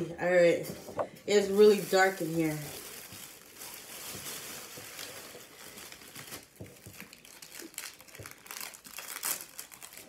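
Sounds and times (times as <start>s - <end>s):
snack packaging crinkling: 1.3s - 10.0s.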